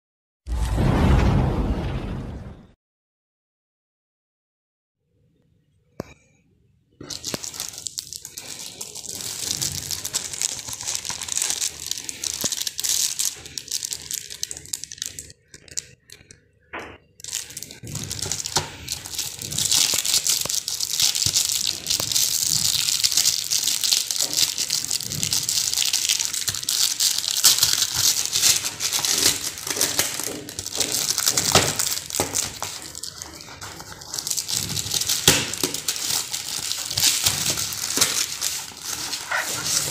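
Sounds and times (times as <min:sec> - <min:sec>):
plastic wrapping crinkling: 0:07.0 - 0:16.4, 0:17.2 - 0:39.9.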